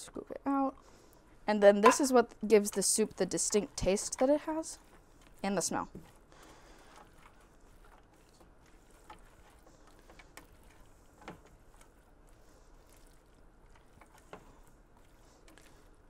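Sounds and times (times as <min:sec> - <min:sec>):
soft wet stirring of soup: 0:00.7 - 0:16.0.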